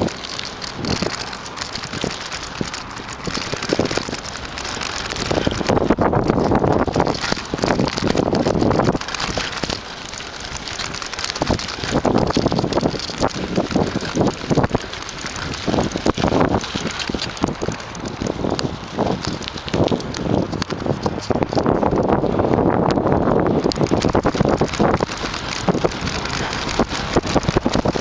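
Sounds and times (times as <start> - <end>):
bicycle rattling over bumps: 0.0 - 28.0
bicycle riding over gravel: 0.0 - 28.0
wind buffeting microphone: 0.0 - 28.0.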